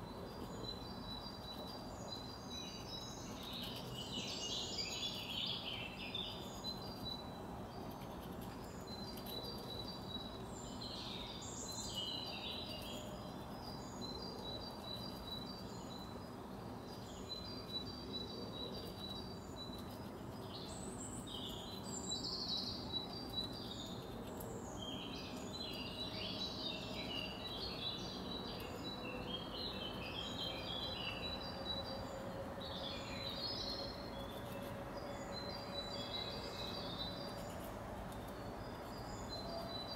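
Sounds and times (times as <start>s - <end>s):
small songbirds chirping: 0.0s - 39.9s
steady low background hum: 0.0s - 39.9s.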